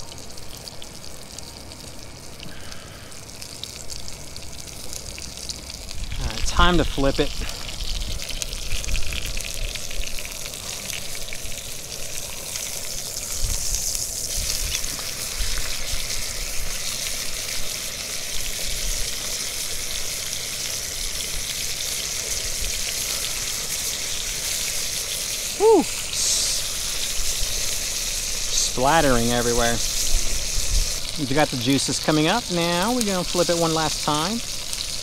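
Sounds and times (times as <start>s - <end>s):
steak sizzling in a skillet: 0.0s - 35.0s.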